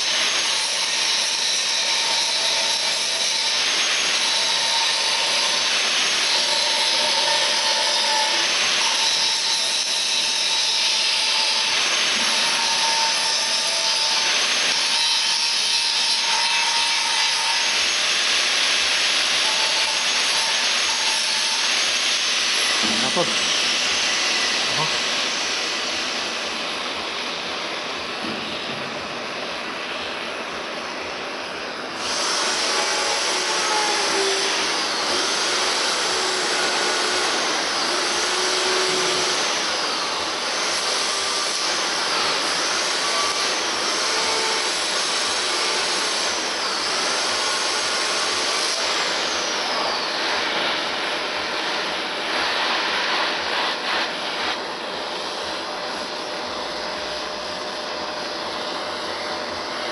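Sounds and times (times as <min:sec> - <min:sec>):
gas torch flame hissing: 0:00.0 - 0:30.2, 0:31.9 - 0:59.9.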